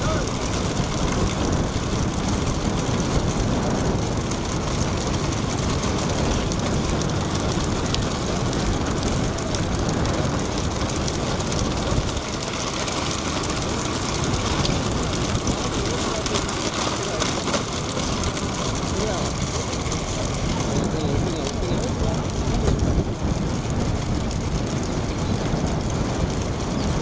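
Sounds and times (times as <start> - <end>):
motorbike engines at speed: 0.0 - 27.0
road noise: 0.0 - 27.0
wind buffeting microphone: 0.0 - 27.0.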